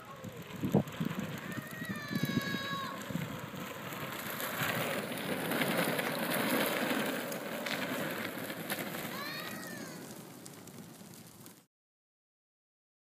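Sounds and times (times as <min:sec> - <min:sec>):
skateboard wheels rolling on asphalt: 0:00.0 - 0:11.7.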